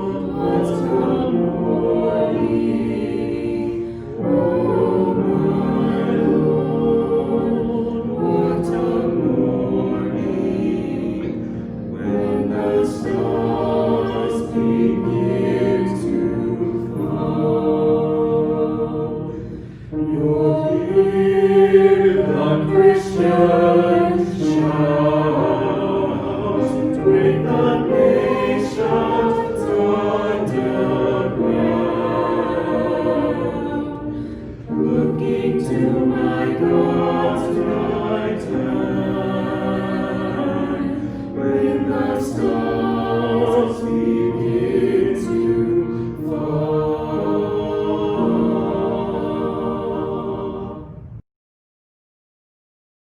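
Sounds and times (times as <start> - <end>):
choir singing in harmony: 0.0 - 51.2.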